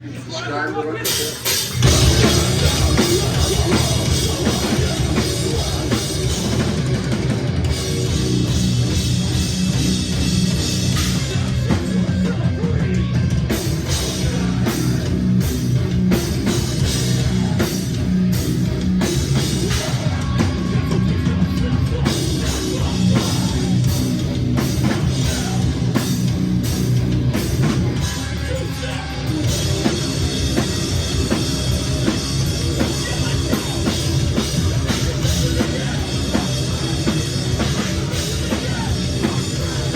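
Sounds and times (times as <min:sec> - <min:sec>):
live metal band playing: 0:00.0 - 0:39.9.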